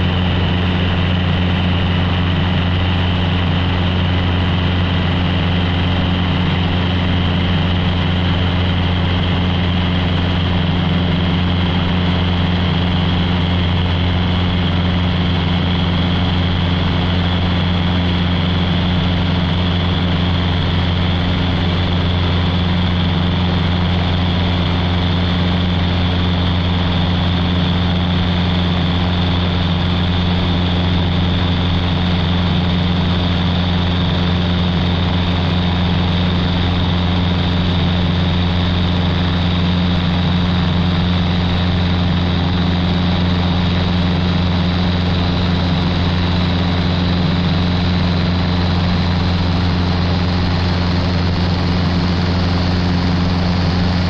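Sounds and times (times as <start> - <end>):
airplane engine and propeller humming: 0.0 - 54.0.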